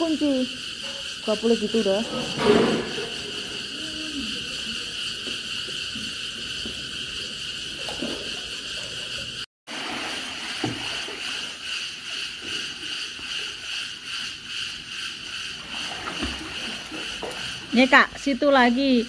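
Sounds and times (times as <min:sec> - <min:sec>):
insects chirring: 0:00.0 - 0:09.5, 0:10.4 - 0:19.0.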